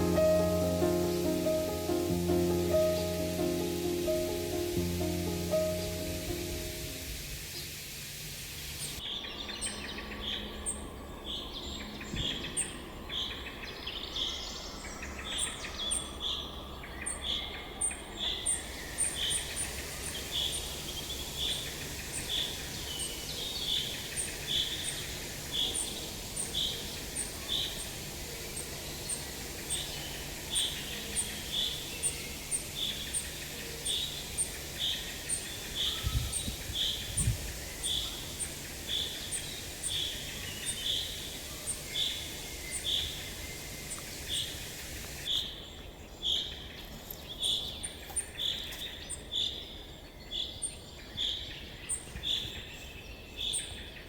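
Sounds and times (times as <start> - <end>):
steady background hiss: 0.0 - 9.2, 12.7 - 54.0
birds singing: 0.0 - 54.0.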